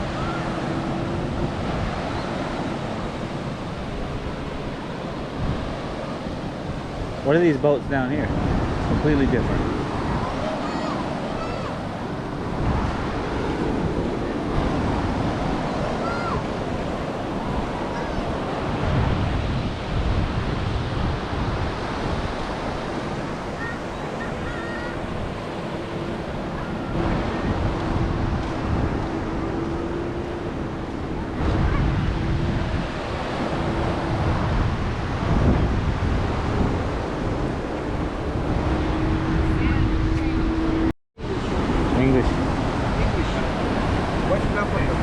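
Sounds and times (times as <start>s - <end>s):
ocean surf on beach: 0.0s - 45.0s
wind on microphone: 0.0s - 45.0s.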